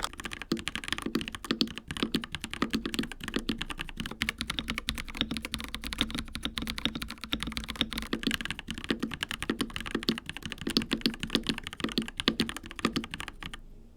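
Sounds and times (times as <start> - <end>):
mechanical keyboard typing: 0.0 - 13.6.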